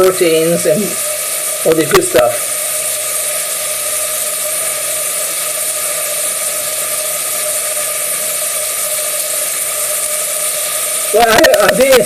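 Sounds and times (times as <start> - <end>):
pan frying with hiss: 0.0 - 12.0
whirring hum: 0.0 - 12.0.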